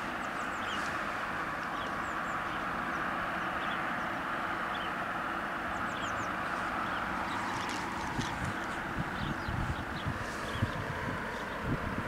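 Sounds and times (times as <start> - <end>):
small birds chirping: 0.0 - 12.0
steady hum and hiss: 0.0 - 12.0.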